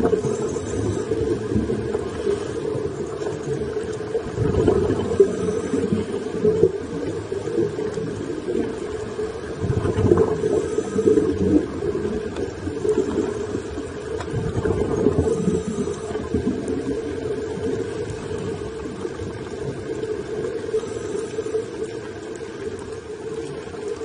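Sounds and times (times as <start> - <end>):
muffled underwater rumble: 0.0 - 24.0.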